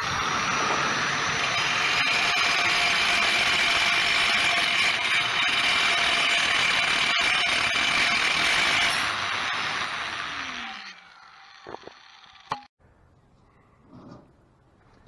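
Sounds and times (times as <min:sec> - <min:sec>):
die grinder cutting concrete: 0:00.0 - 0:12.6.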